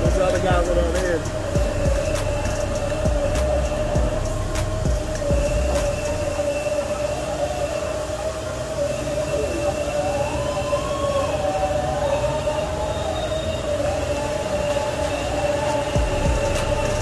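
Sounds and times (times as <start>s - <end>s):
faint rising tone: 0.0s - 17.0s
industrial machinery drone: 0.0s - 17.0s.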